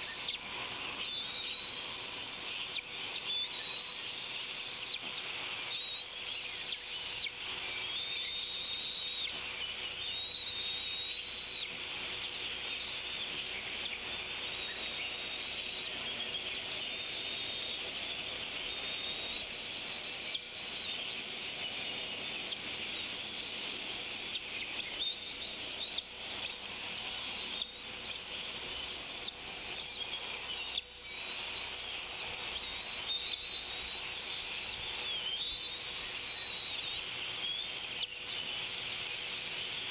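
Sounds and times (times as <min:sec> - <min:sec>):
faint steady hum: 0:00.0 - 0:39.9
songbirds singing: 0:00.0 - 0:39.9.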